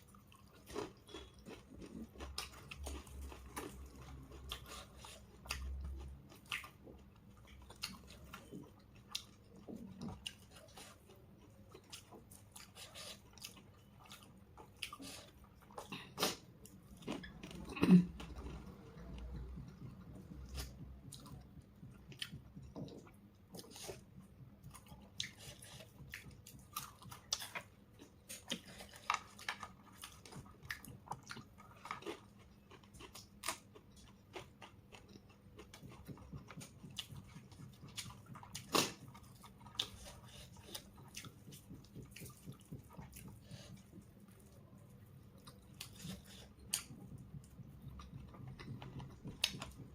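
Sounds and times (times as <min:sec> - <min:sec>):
chewing and crunching food: 0:00.0 - 0:49.9.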